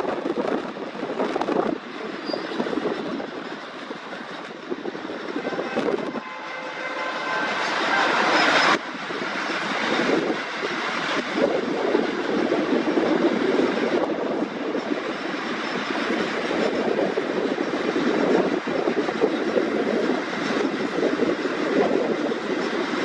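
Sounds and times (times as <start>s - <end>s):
train rumbling past on rails: 0.0s - 23.0s.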